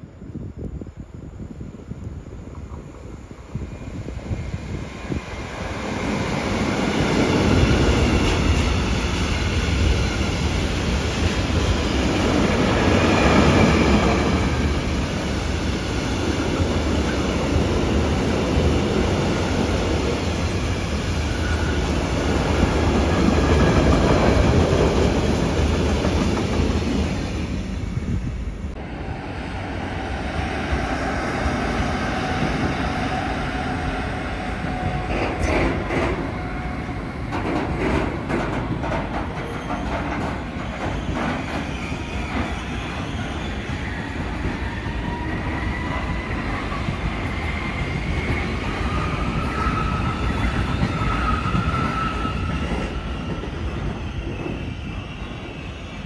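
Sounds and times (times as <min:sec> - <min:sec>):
train wheels rumbling: 0:02.4 - 0:56.0.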